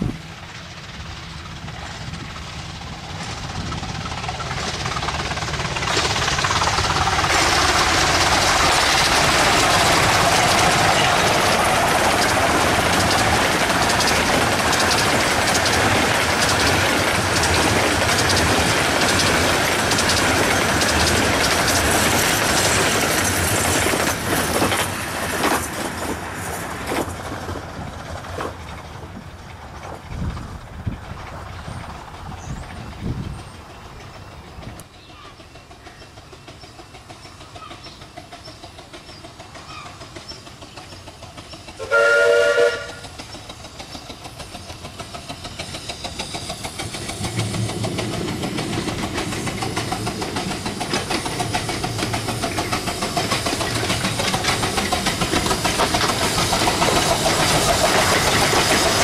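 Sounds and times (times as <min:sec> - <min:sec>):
coaches clattering over rail joints: 0:00.0 - 0:41.8, 0:42.8 - 0:59.0
miniature steam train passing: 0:00.0 - 0:59.0.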